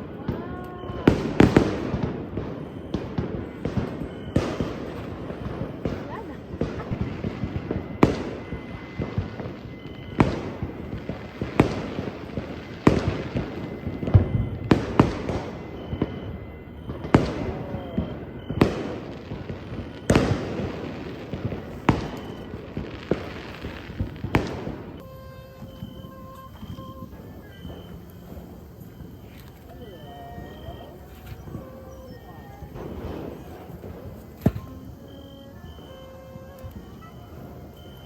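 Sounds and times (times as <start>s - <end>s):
fireworks bangs with crackle: 0.0s - 38.0s.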